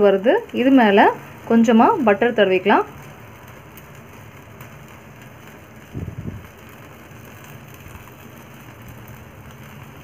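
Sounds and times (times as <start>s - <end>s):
gas burner rushing: 0.0s - 10.0s
light sizzling: 0.0s - 10.0s.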